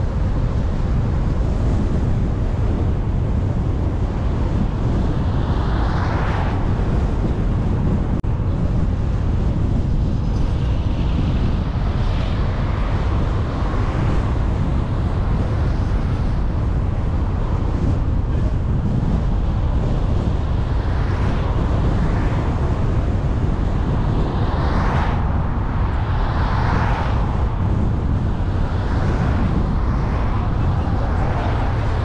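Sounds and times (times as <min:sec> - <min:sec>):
tyre and road noise: 0:00.0 - 0:32.0
vehicles passing: 0:02.2 - 0:32.0.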